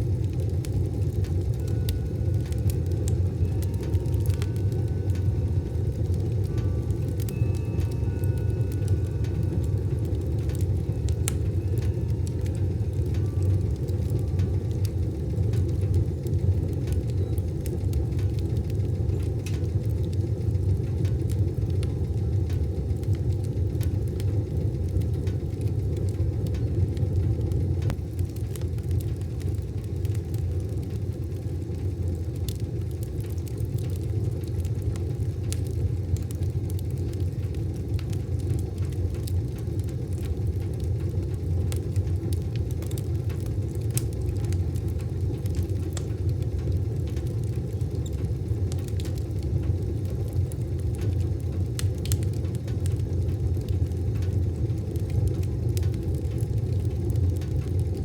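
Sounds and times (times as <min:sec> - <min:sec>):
fire crackles and pops: 0:00.0 - 0:58.0
fire rumbling in stove: 0:00.0 - 0:58.0.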